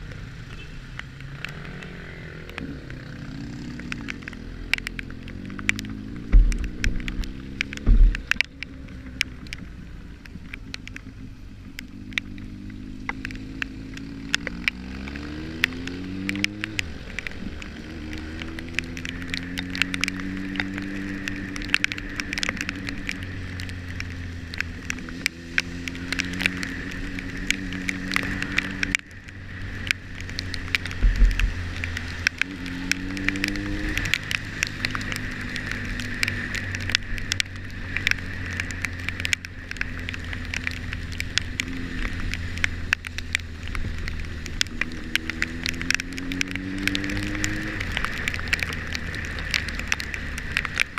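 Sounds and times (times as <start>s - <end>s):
rain pattering: 0.0s - 50.9s
raindrops ticking on microphone: 0.0s - 50.9s
motorcycle engine accelerating: 1.2s - 9.6s, 11.2s - 50.9s.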